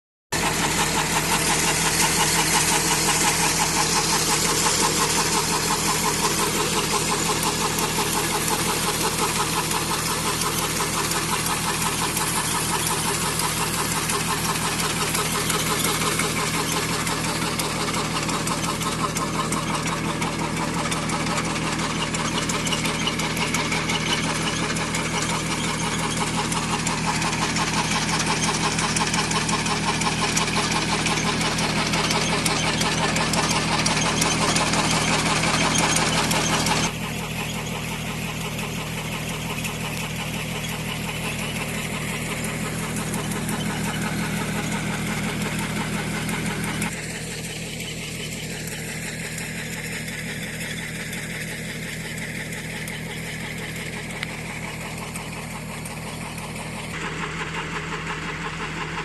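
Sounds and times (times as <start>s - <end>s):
tractor diesel engine running: 0.3s - 59.0s.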